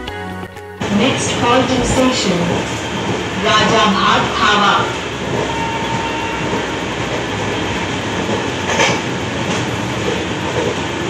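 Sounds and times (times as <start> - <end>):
train wheels rumbling: 0.8 - 11.0
sharp train clatter: 0.9 - 11.0.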